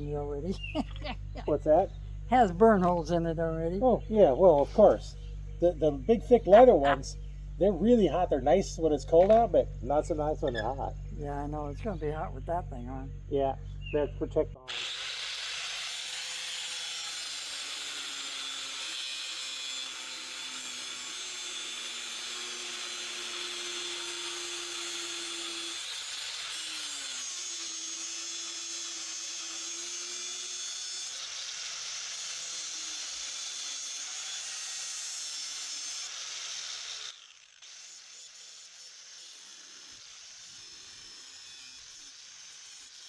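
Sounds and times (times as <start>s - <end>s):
angle grinder grinding metal: 0.0s - 43.0s.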